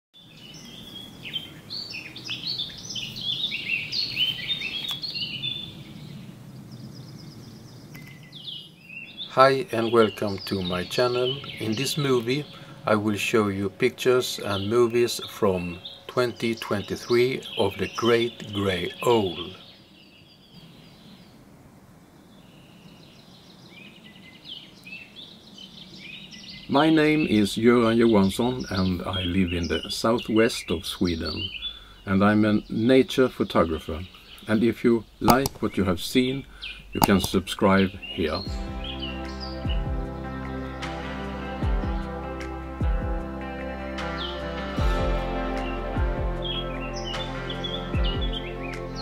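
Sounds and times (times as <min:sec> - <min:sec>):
songbirds chirping and whistling: 0:00.2 - 0:43.0, 0:43.6 - 0:49.0.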